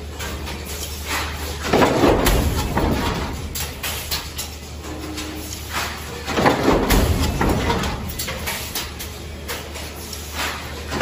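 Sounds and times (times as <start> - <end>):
press clanking and rattling: 0.1 - 11.0.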